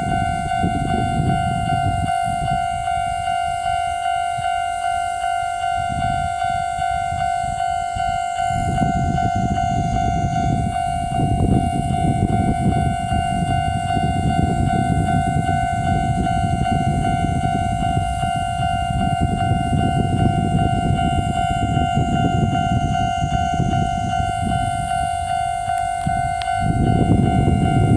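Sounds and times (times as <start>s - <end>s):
level-crossing warning bell ringing: 0.0s - 27.9s
passing train rumble: 0.0s - 27.9s.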